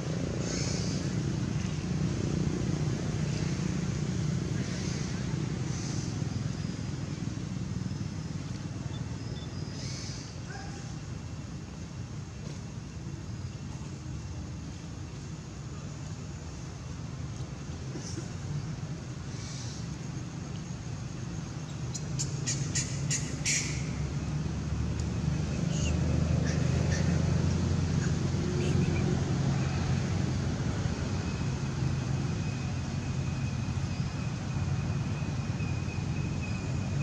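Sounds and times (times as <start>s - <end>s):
distant traffic rumble: 0.0s - 37.0s.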